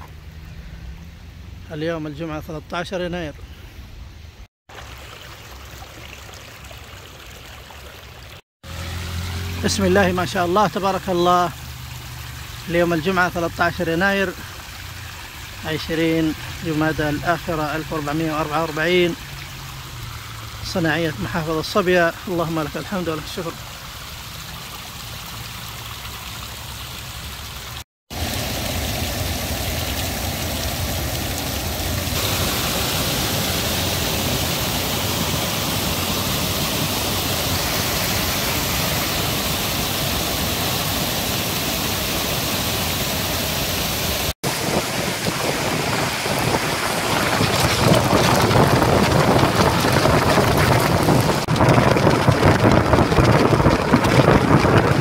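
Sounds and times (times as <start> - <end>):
floodwater rushing over rocks: 4.7 - 55.0
waterfall pouring: 4.7 - 55.0
heavy rain: 8.6 - 55.0.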